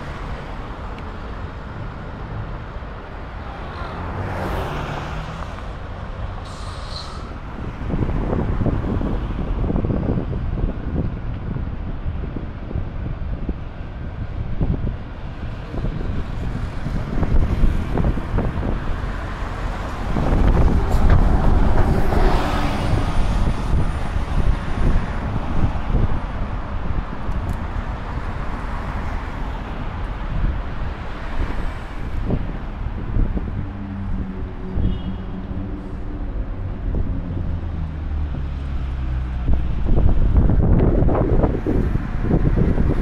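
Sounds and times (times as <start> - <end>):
buses and cars running: 0.0 - 43.0.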